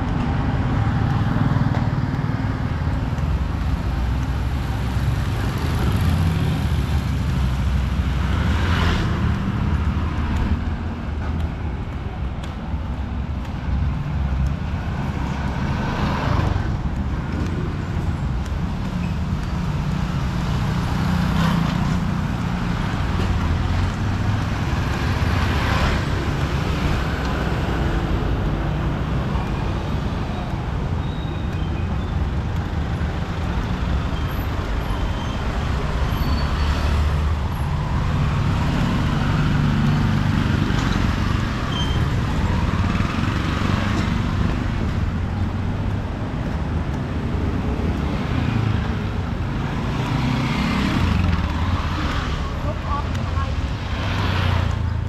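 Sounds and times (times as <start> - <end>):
traffic passing on street: 0.0 - 55.0.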